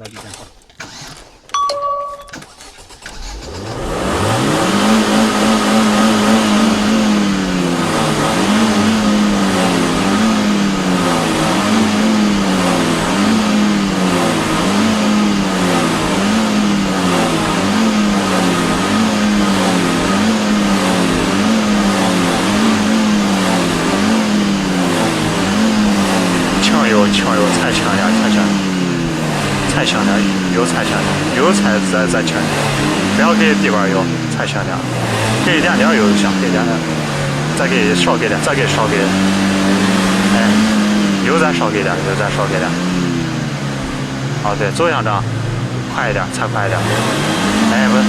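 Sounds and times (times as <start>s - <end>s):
car engine starting and revving: 0.0s - 1.6s, 2.3s - 48.0s.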